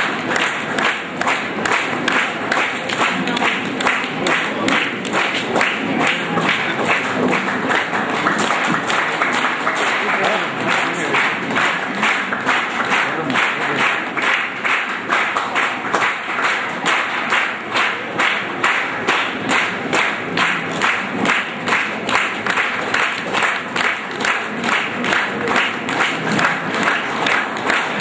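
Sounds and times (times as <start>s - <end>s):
audience clapping in rhythm: 0.0s - 28.0s.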